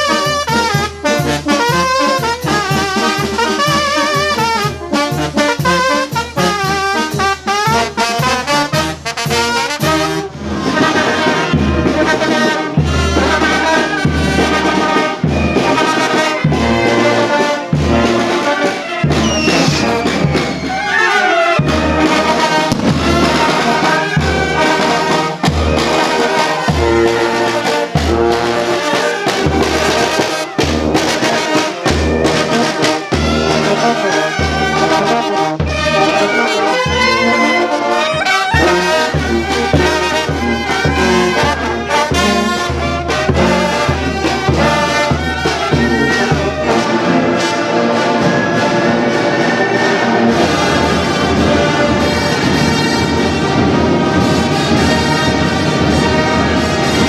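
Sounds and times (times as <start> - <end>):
trumpets and trombones playing: 0.0 - 57.0.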